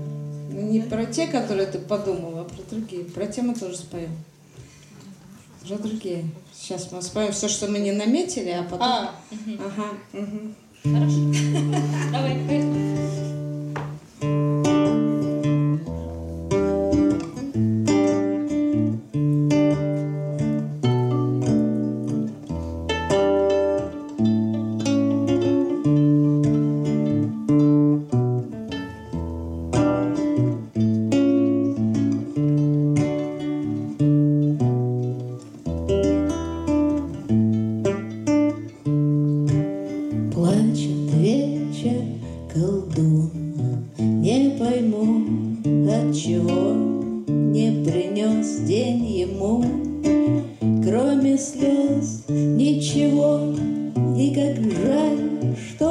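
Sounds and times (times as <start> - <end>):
acoustic guitar strumming: 0.0 - 4.0, 10.8 - 55.9.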